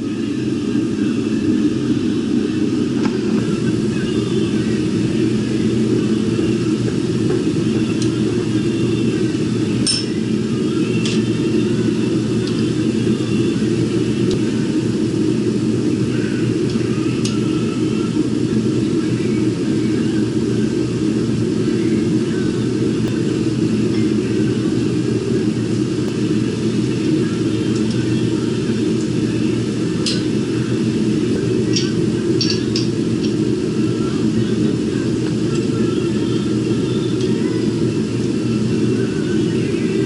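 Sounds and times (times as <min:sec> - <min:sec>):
shop machine droning: 0:00.0 - 0:40.0.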